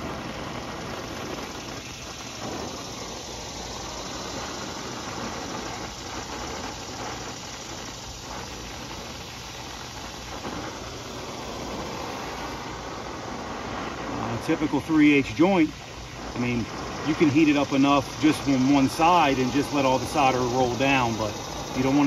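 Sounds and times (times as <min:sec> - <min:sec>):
torch flame hissing: 0:00.0 - 0:22.0.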